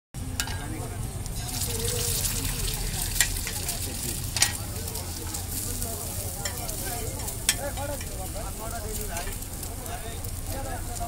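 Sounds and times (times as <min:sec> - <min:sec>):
egg sizzling on griddle: 0:00.2 - 0:11.0.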